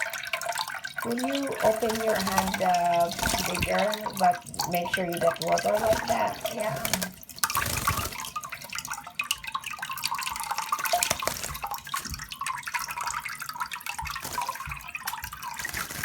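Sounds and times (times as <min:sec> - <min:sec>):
bird splashing in water: 0:00.0 - 0:16.0
tap water running: 0:00.0 - 0:16.0.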